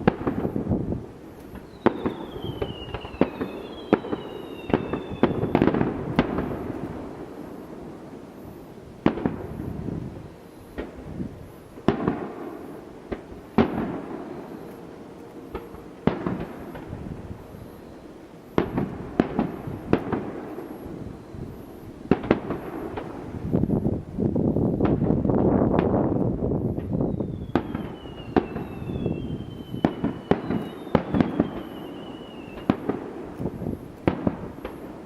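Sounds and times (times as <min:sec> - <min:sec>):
fireworks bursting with echo: 0:00.0 - 0:35.0.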